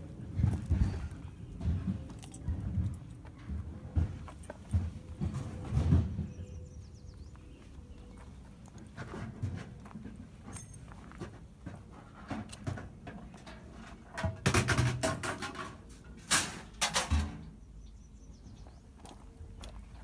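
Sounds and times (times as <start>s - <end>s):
rustling in scrap metal and gravel: 0.0s - 17.6s.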